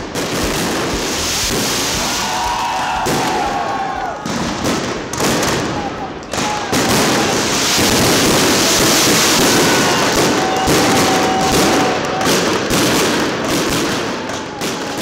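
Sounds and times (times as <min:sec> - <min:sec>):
firework whistle: 0:00.0 - 0:04.8, 0:05.5 - 0:15.0
fireworks crackling and popping: 0:00.0 - 0:15.0.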